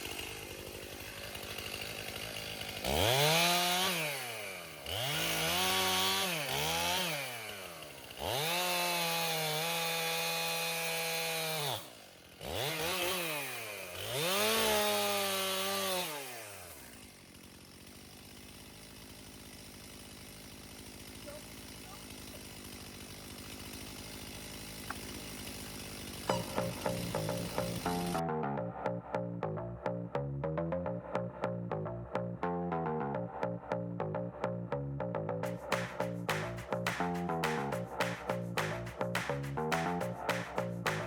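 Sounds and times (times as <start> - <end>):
chainsaw idling and revving: 0.0 - 28.4, 35.3 - 41.0.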